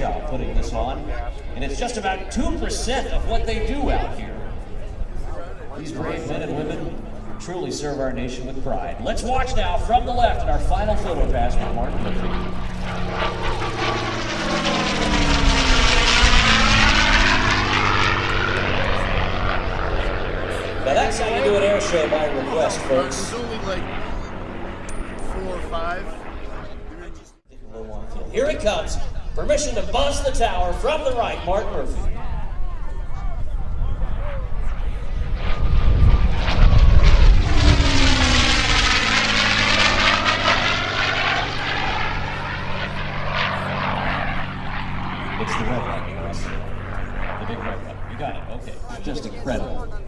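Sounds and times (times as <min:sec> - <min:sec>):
propeller plane fly-by: 0:00.0 - 0:50.0.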